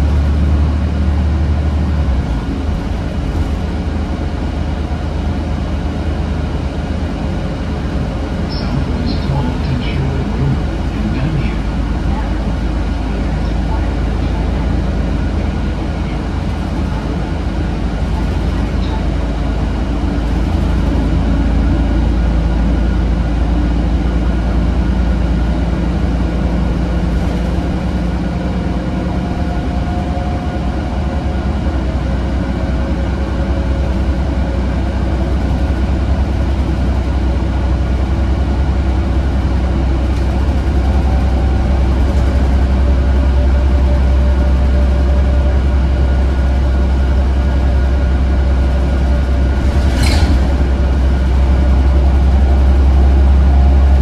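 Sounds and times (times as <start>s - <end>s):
bus engine rumble: 0.0s - 54.0s
road and tyre noise: 0.0s - 54.0s.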